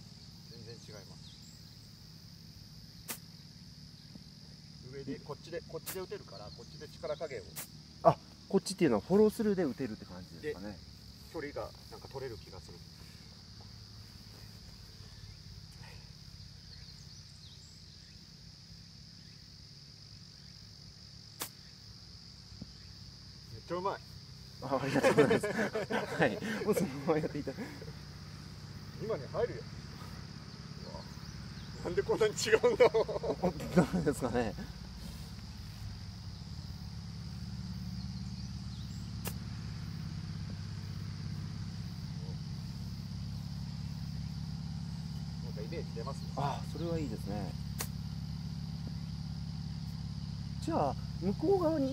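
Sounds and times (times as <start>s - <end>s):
constant high hum: 0.0s - 51.9s
high-pitched insect chorus: 0.0s - 51.9s.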